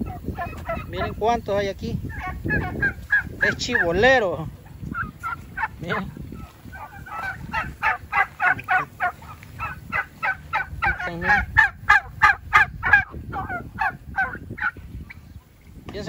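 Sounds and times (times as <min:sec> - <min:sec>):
turkeys calling: 0:00.0 - 0:16.0.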